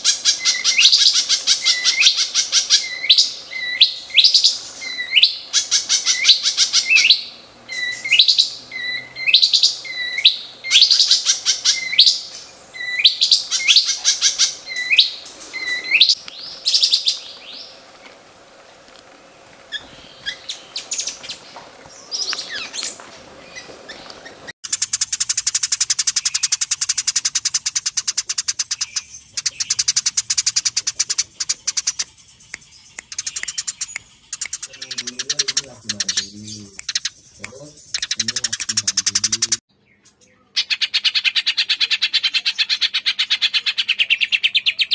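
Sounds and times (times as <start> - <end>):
fast rattling bird song: 0.0 - 44.9
songbird song with harsh bursts: 0.0 - 44.9.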